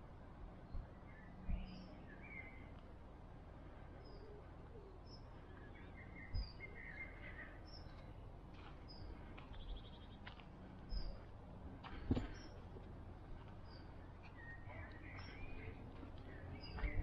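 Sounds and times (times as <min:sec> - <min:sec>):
faint low rumble: 0:00.0 - 0:17.0
songbirds singing: 0:00.2 - 0:17.0.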